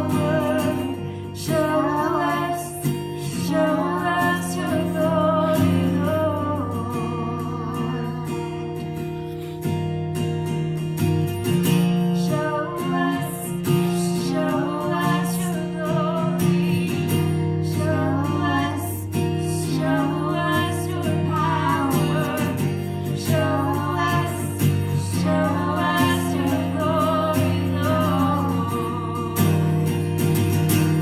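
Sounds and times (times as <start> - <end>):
woman singing: 0.0 - 9.3, 11.8 - 30.3
strummed acoustic guitar: 0.0 - 31.0.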